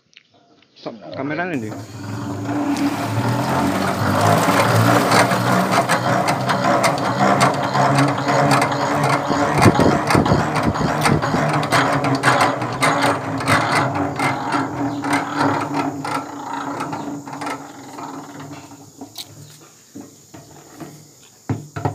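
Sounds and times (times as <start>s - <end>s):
hand-cranked extractor gears whirring: 1.6s - 19.3s
crank clicks and rattles: 1.6s - 19.6s.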